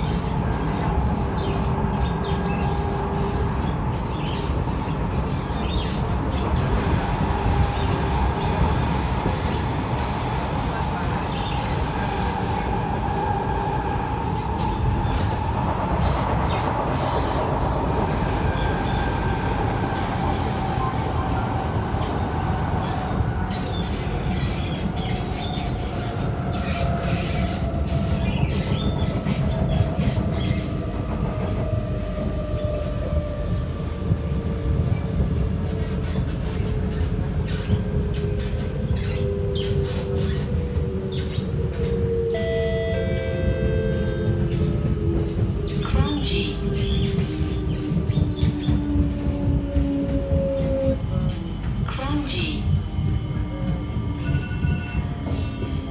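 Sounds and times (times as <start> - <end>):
metro wheels rumbling: 0.0 - 55.9.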